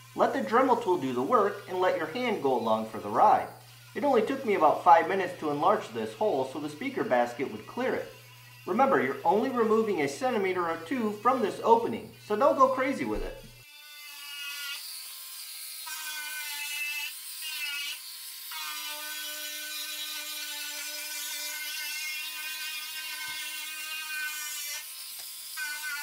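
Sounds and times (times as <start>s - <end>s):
gritty sanding hiss: 0.0s - 13.4s, 14.1s - 26.0s
rotary tool motor whine: 0.0s - 26.0s.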